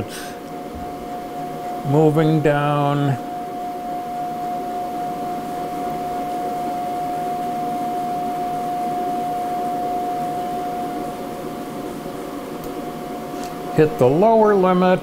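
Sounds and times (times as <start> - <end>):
low hum: 0.0 - 14.8
stepper motor whine: 0.0 - 15.0.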